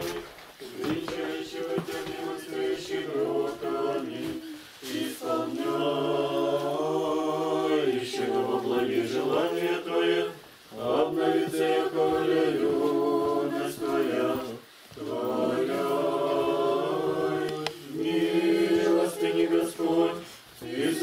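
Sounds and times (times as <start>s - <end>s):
group singing liturgical chant: 0.0s - 21.0s.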